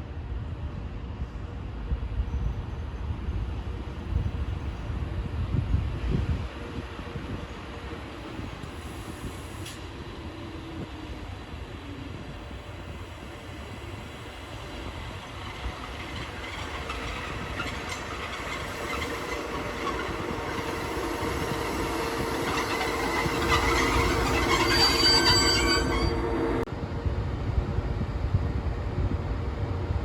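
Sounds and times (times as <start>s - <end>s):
rail and wheel noise: 0.0s - 30.0s
train approaching: 0.2s - 28.8s.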